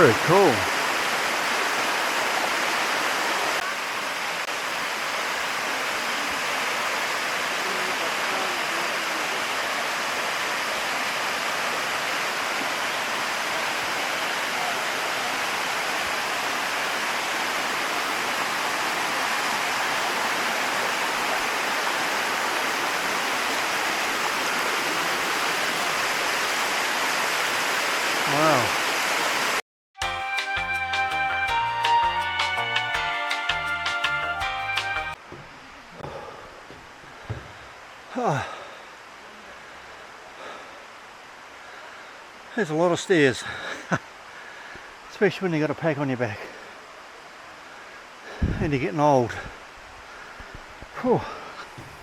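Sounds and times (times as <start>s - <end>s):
waterfall cascading over rock: 0.0s - 29.6s, 35.1s - 52.0s.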